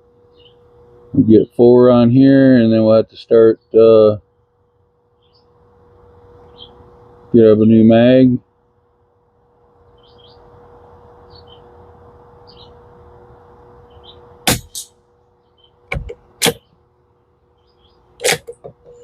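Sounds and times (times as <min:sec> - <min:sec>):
birds chirping faintly: 0:00.0 - 0:14.4, 0:15.1 - 0:18.2.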